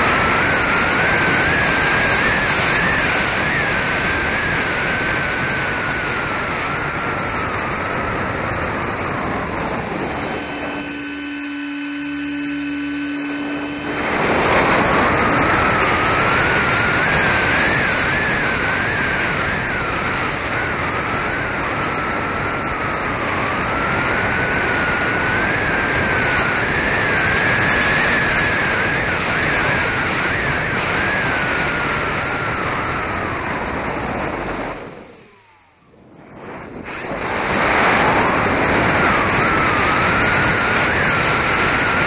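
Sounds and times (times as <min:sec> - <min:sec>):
electric motor and propeller whining: 0:00.0 - 0:42.0
wind rushing over camera: 0:00.0 - 0:42.0.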